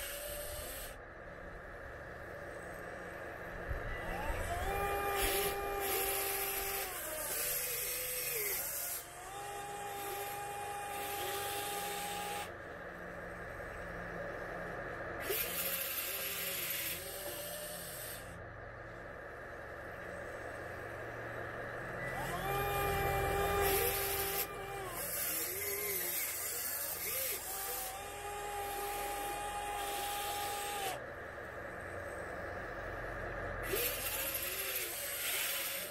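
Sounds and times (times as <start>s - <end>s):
toy excavator motors whining: 0.0s - 35.9s.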